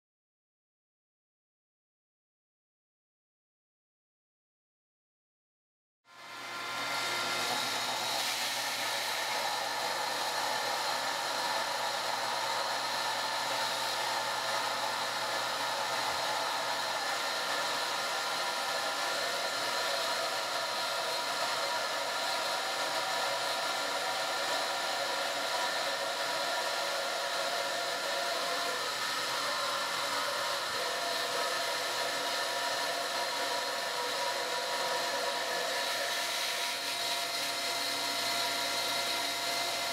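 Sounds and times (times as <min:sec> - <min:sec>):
centrifugal pump whirring: 0:06.2 - 0:39.9.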